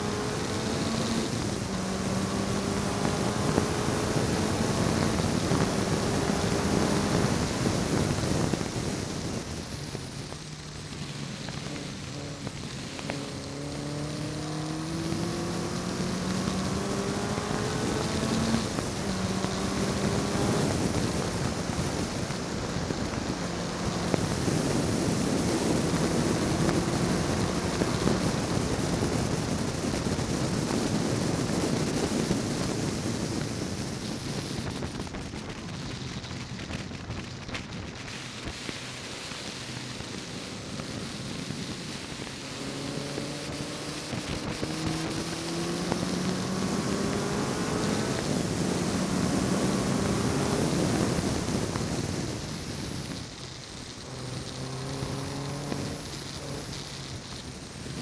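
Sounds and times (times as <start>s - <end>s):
car engine revving: 0.0s - 33.7s, 39.7s - 58.0s.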